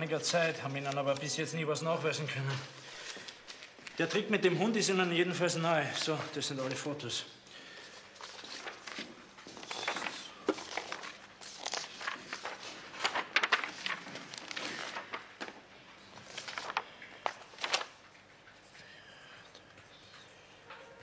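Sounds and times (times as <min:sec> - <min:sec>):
paper rustling: 0:00.0 - 0:01.6, 0:02.3 - 0:18.8.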